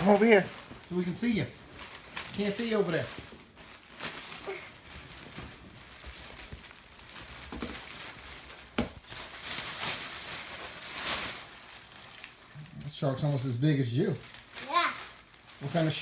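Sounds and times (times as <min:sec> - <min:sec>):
wrapping paper crinkling: 0:00.0 - 0:16.0.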